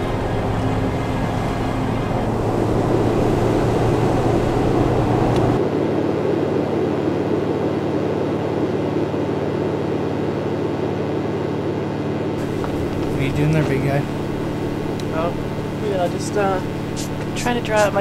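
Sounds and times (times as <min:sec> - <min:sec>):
road and wind noise in vehicle: 0:00.0 - 0:18.0.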